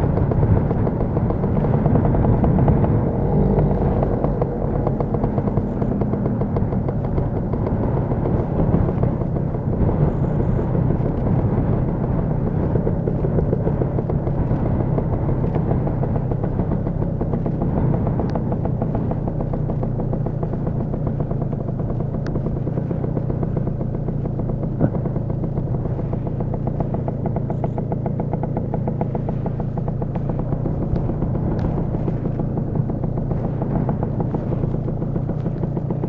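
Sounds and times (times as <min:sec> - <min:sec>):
exhaust rattle: 0:00.0 - 0:36.0
scooter engine running: 0:00.0 - 0:36.0.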